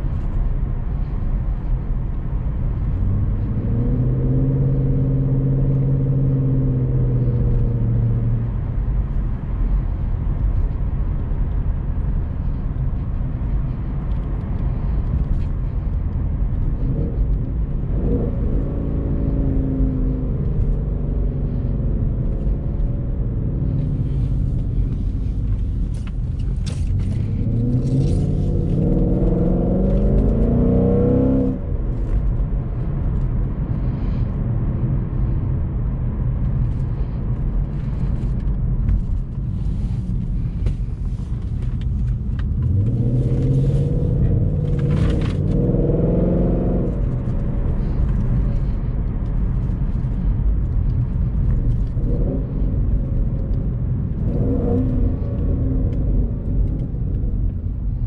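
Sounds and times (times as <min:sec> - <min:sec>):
car engine revving while driving: 0:00.0 - 0:58.0
road noise: 0:00.0 - 0:58.0.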